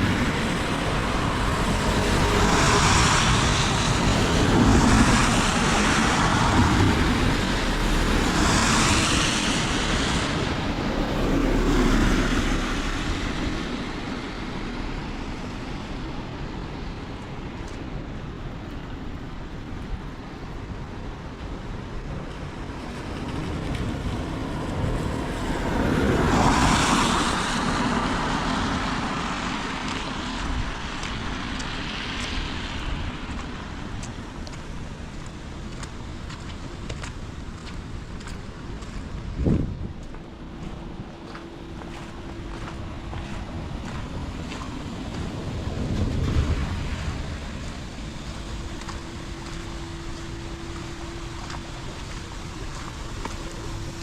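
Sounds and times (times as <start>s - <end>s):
heavy rain: 0.0s - 54.0s
tyres hissing on wet road: 0.0s - 54.0s.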